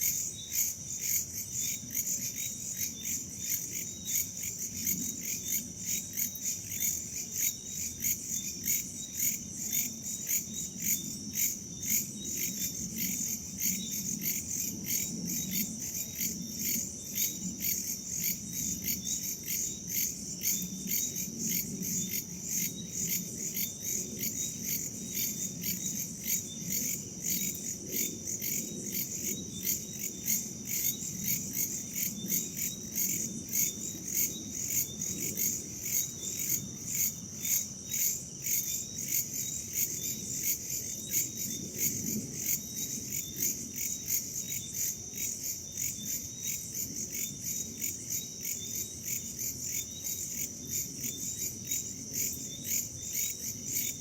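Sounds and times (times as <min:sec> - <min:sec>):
crickets and insects chirping: 0:00.0 - 0:54.0.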